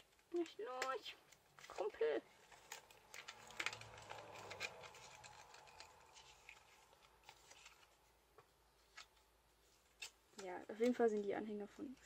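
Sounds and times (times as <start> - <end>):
plastic packaging rustling and clicking: 0.0 - 12.0.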